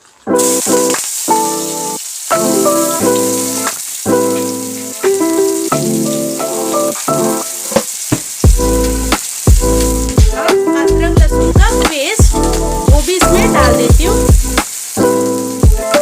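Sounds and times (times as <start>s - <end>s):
chillies sizzling in hot oil: 0.0s - 16.0s
plucked string music: 0.3s - 7.9s, 8.5s - 16.0s.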